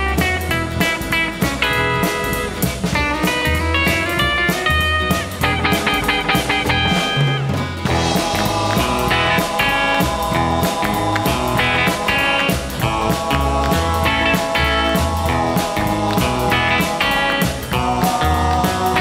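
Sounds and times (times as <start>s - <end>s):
rock blues music with guitar: 0.0s - 19.0s.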